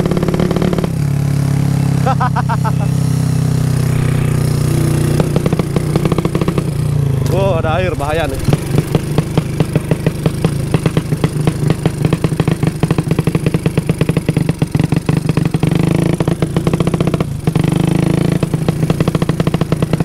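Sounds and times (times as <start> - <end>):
motorcycle engine chopping beat: 0.0 - 20.0.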